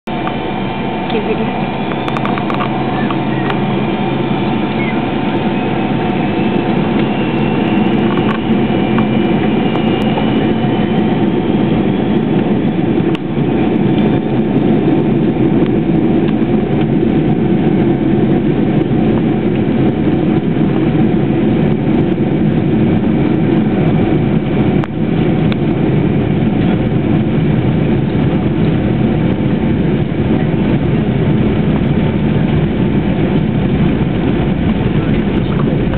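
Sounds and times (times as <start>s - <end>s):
jet engines rumbling and whining: 0.0s - 35.9s.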